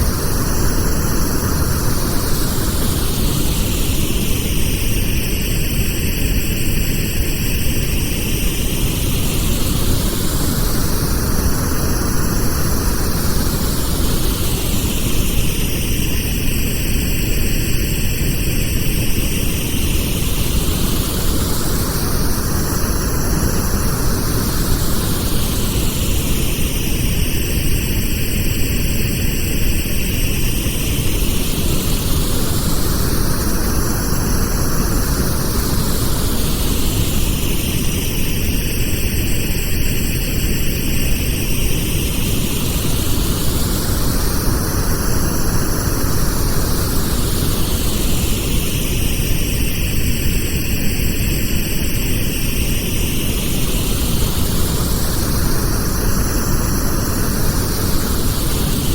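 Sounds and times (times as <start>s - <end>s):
sweeping pink noise hiss: 0.0s - 58.9s.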